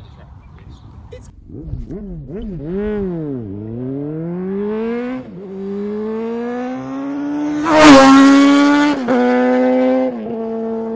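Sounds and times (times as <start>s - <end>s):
motorcycle engine accelerating: 1.0s - 10.9s.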